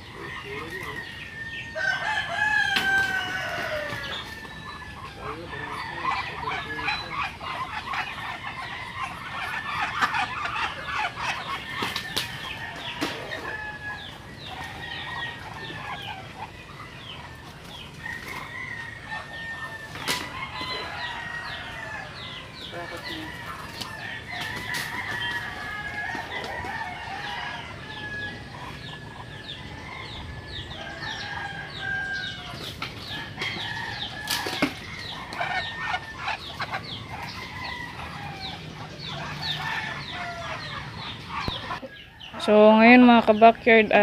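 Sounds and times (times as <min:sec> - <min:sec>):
poultry calling: 0:00.0 - 0:44.0.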